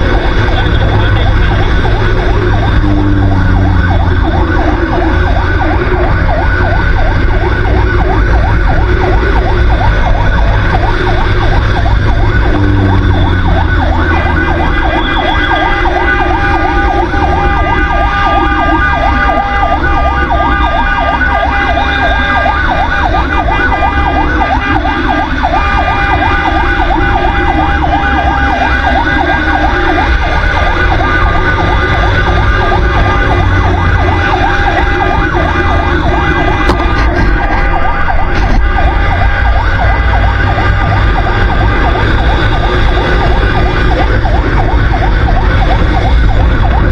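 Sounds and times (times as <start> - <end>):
fire truck siren yelping: 0.0 - 46.9
steady siren tone: 0.0 - 46.9
truck engine rumble: 0.0 - 46.9.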